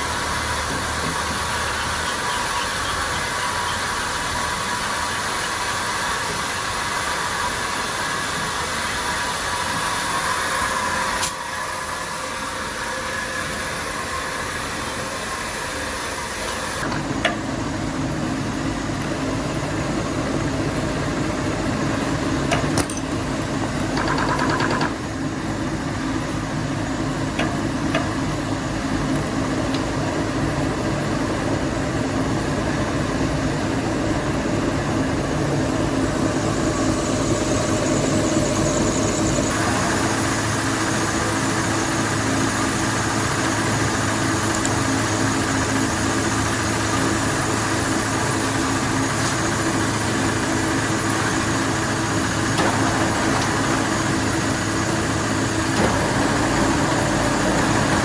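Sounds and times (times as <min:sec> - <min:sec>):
factory machinery humming: 0:00.0 - 0:58.0.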